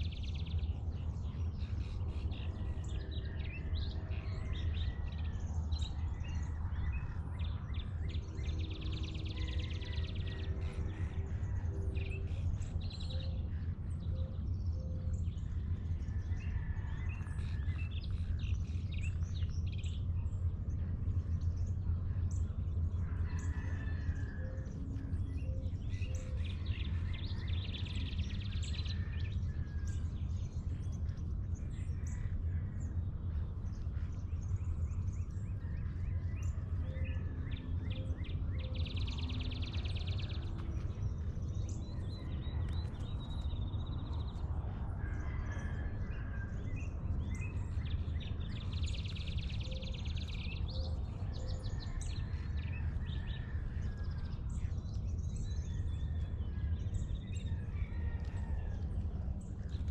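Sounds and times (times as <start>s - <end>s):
birds chirping and calling: 0.0s - 59.9s
steady low rumble: 0.0s - 59.9s.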